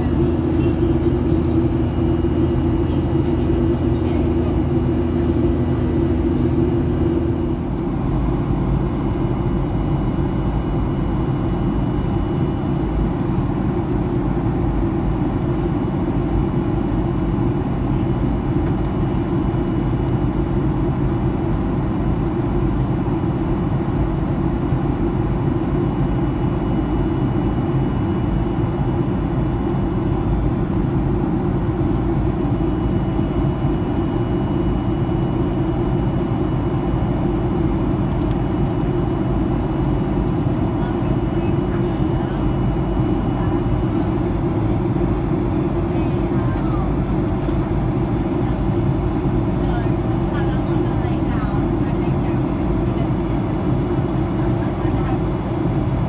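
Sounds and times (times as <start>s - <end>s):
airliner cabin engine rush: 0.0s - 56.0s.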